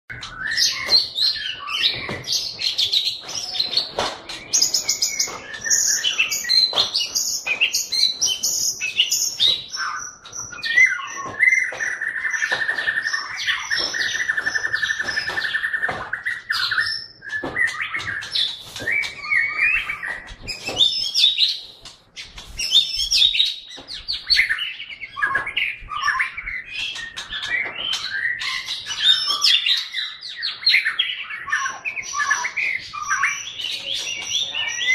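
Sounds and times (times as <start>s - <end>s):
bird singing whistled phrases: 0.1s - 2.2s, 3.2s - 21.6s, 22.6s - 34.9s.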